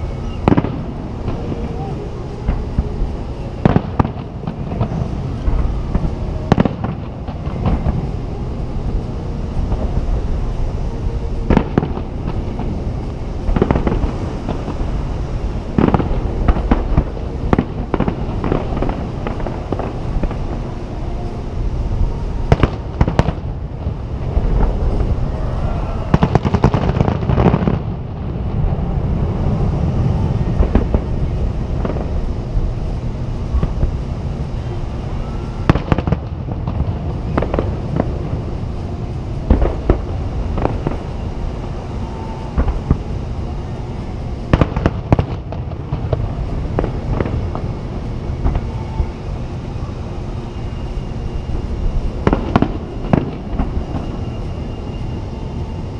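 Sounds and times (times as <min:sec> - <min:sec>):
low rumble: 0:00.0 - 0:55.8
fireworks booming: 0:00.0 - 0:55.9.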